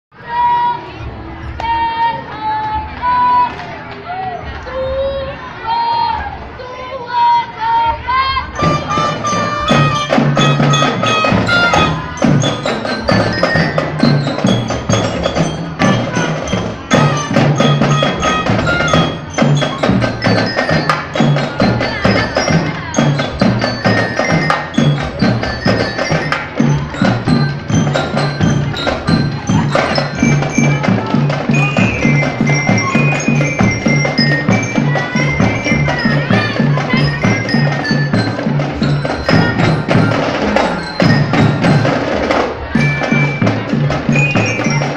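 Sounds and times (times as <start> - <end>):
marching band drums: 8.4 - 44.9
bell lyre melody: 8.6 - 44.9.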